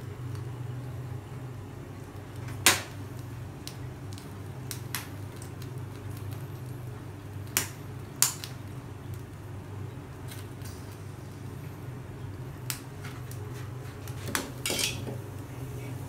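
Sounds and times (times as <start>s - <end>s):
gas stove flame hum: 0.0s - 16.0s.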